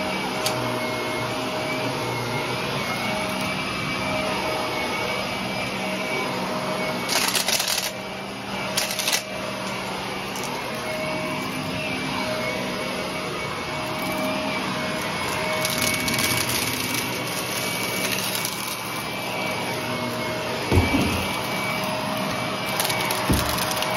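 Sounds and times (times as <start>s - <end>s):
vacuum cleaner running: 0.0s - 23.9s.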